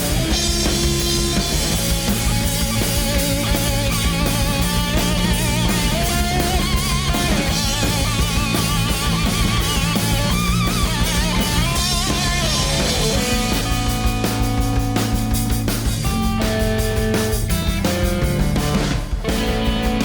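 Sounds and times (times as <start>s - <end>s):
distorted rock band playing: 0.0s - 20.0s.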